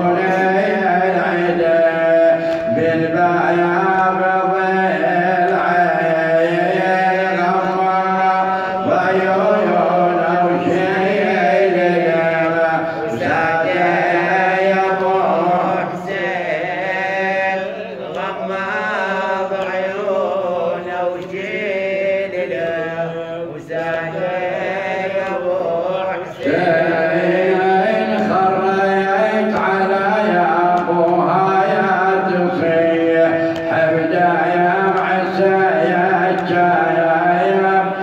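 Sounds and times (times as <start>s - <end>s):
man chanting through a microphone: 0.0s - 38.0s.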